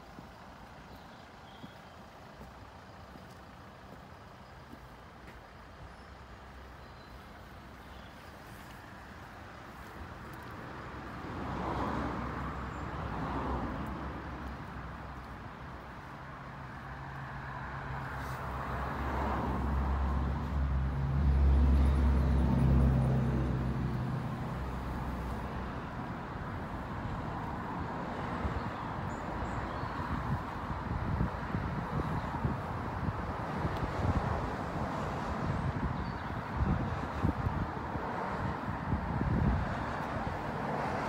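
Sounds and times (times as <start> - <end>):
distant traffic: 0.0 - 41.0.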